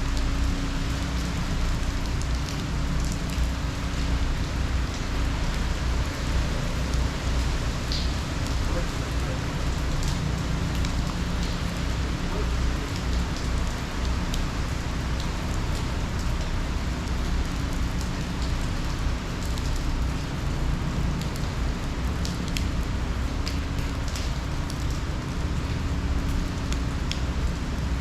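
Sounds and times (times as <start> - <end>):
heavy rain: 0.0 - 28.0
sharp drip ticks: 0.1 - 28.0.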